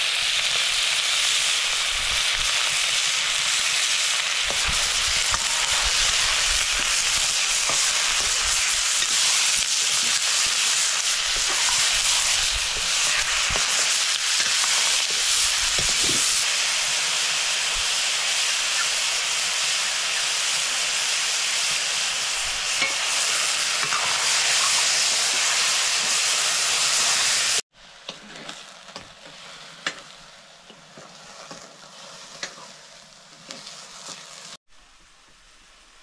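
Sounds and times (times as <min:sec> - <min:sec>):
food sizzling in a hot pan: 0:00.0 - 0:34.6.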